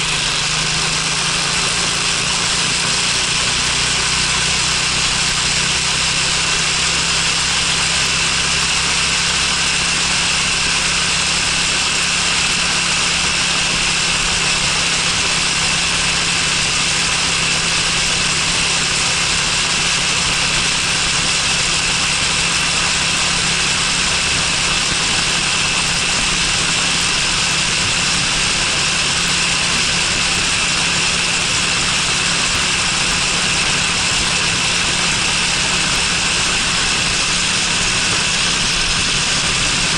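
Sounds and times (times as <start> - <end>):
road and wind noise: 0.0 - 39.9
scooter engine running: 0.0 - 39.9.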